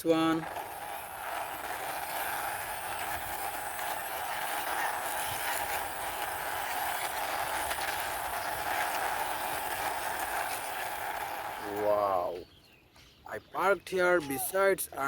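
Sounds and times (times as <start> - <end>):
toy car wheels rolling: 0.0 - 12.4.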